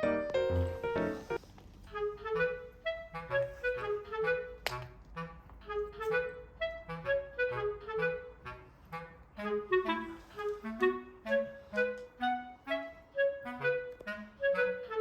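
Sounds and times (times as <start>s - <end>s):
bouncy woodwind melody: 0.0s - 15.0s.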